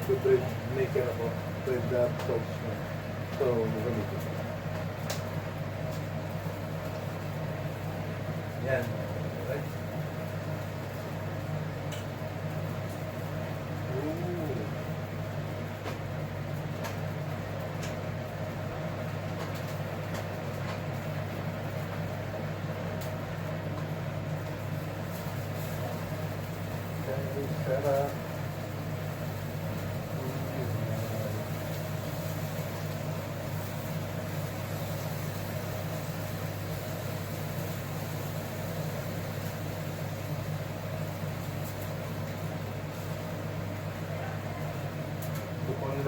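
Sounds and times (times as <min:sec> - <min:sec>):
kitchen appliance electric hum: 0:00.0 - 0:46.0.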